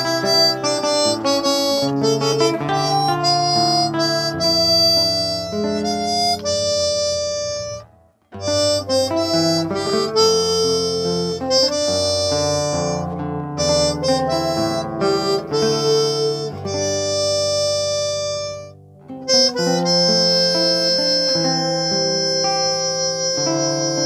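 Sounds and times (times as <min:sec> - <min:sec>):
harmonica melody: 0:00.0 - 0:24.0.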